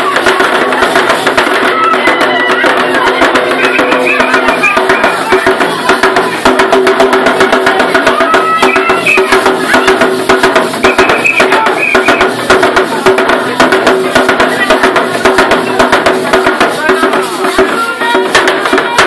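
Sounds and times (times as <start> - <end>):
ankle rattles and stamping beat: 0.0 - 19.0
voices singing steady notes: 0.0 - 19.0.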